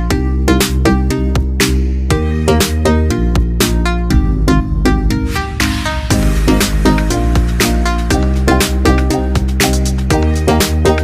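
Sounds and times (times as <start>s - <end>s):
electronic music with bass and beat: 0.0s - 11.0s.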